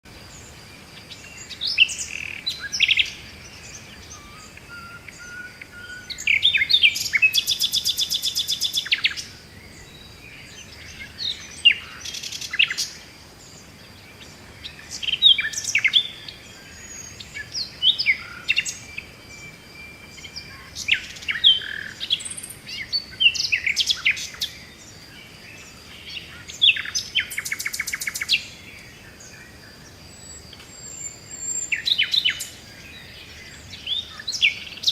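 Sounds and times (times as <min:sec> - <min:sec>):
songbird singing: 0:00.0 - 0:34.9
bird trill: 0:01.0 - 0:25.0, 0:29.8 - 0:34.9.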